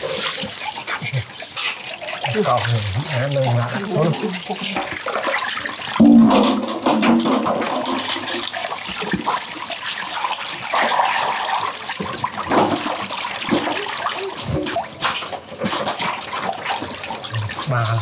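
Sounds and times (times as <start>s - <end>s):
hands scrubbing fish: 0.0s - 18.0s
hose running water: 0.0s - 18.0s
water sloshing in metal basin: 0.0s - 18.0s.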